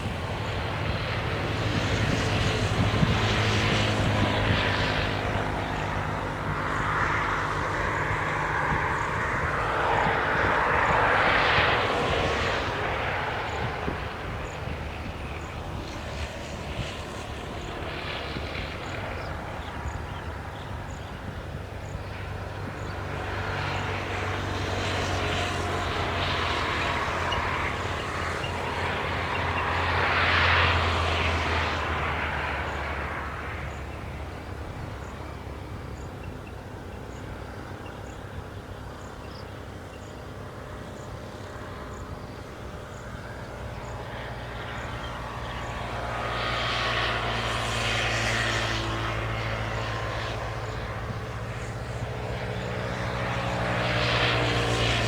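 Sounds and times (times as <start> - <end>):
distant engine drone: 0.0 - 55.0.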